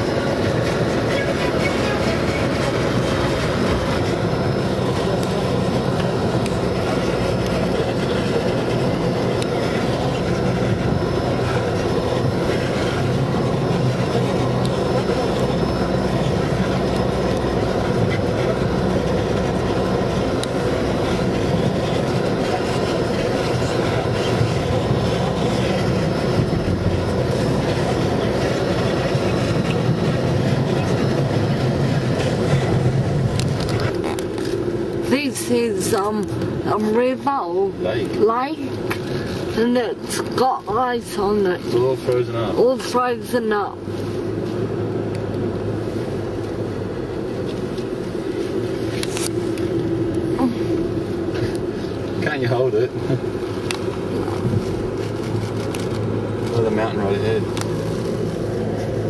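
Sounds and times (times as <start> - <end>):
car driving heard from cabin: 0.0 - 59.0.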